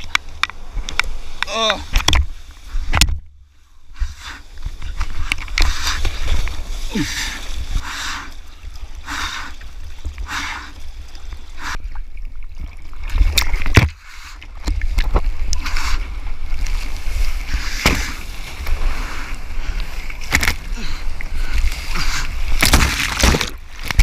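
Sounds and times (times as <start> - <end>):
sea water splashing: 3.8 - 24.0.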